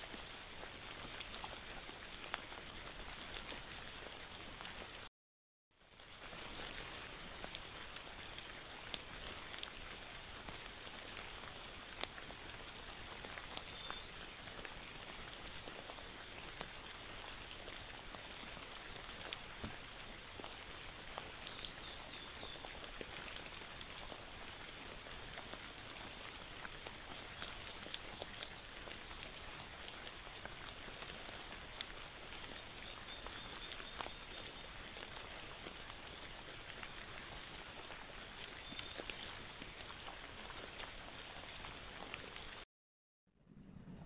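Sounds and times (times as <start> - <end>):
light rain on foliage: 0.0 - 5.1, 5.8 - 42.6.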